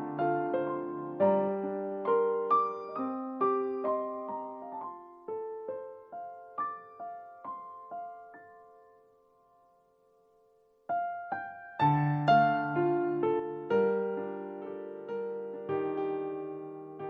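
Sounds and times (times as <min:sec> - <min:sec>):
soft solo piano: 0:00.0 - 0:17.0.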